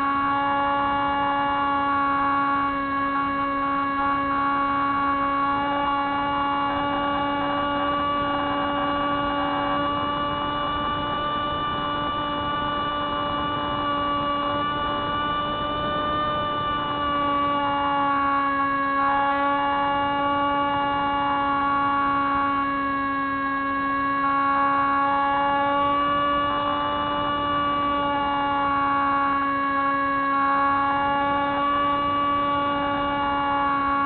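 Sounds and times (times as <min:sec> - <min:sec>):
model plane motor droning: 0:00.0 - 0:34.0.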